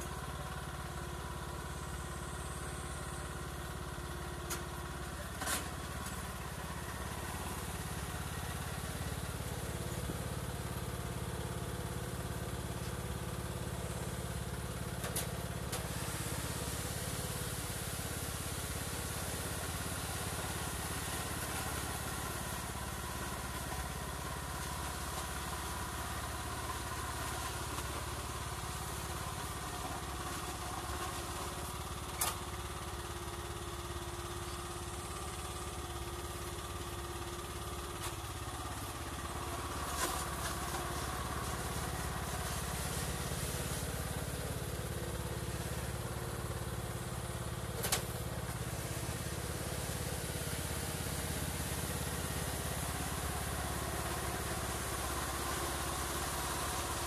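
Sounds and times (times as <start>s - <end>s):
small lawn tractor engine running: 0.0s - 57.0s.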